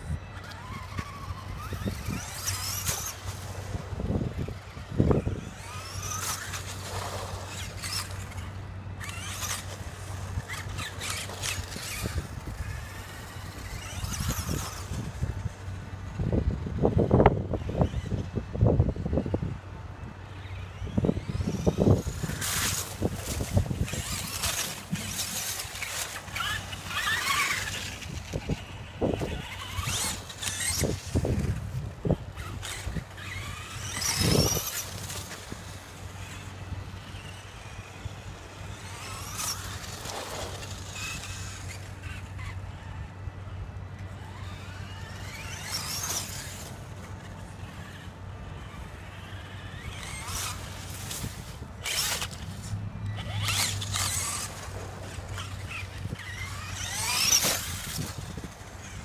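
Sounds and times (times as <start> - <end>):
toy truck motor whining: 0.0 - 59.0.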